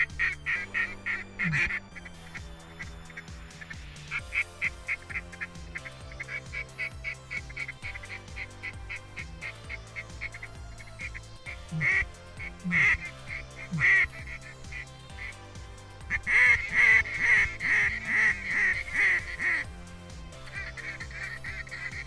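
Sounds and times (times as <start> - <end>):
duck quacking: 0.0 - 15.4, 16.1 - 19.7, 20.3 - 22.0
background music: 0.0 - 22.0.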